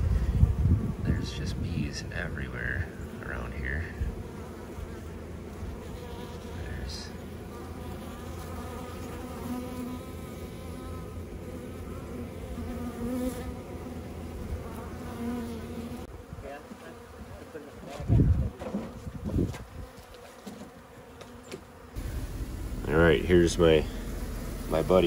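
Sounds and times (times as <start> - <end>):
bee flying close by: 0.0 - 25.0
honeybees buzzing: 0.0 - 25.0.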